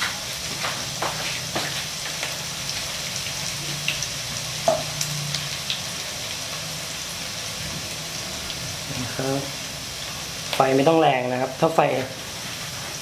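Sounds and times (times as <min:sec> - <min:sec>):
shallots sizzling in oil: 0:00.0 - 0:13.0.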